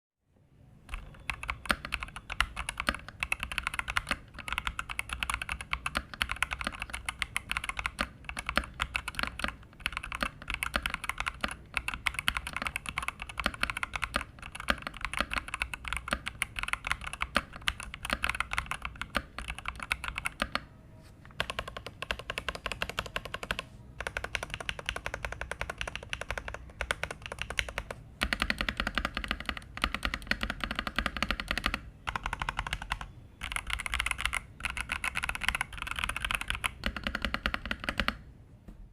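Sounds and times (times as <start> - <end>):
mechanical keyboard typing: 0.9 - 20.7, 21.3 - 38.2.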